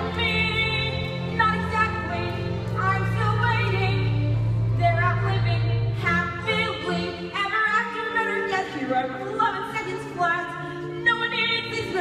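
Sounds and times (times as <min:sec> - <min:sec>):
musical accompaniment: 0:00.0 - 0:12.0.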